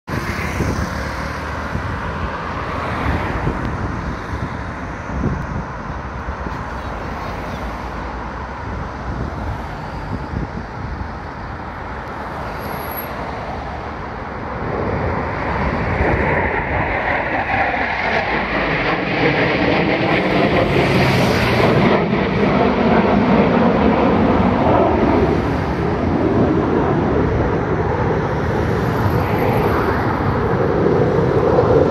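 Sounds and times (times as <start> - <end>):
jet engines roaring: 0.1 - 31.9
road traffic passing: 0.1 - 31.9
wind on microphone: 0.1 - 31.9.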